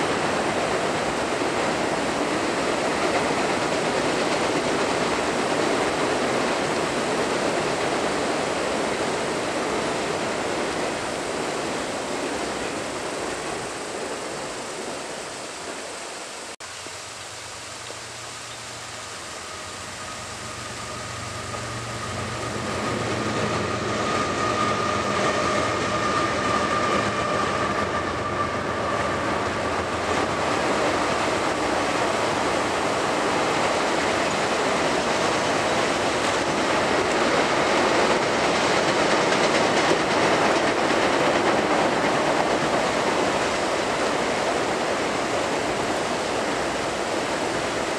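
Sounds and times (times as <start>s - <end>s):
freight train wheels rumbling: 0.0s - 16.1s, 18.8s - 47.9s.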